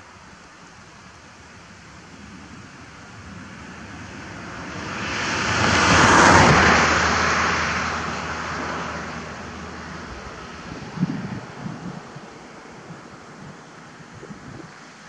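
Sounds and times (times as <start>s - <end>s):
vehicle passing by: 2.0s - 14.8s.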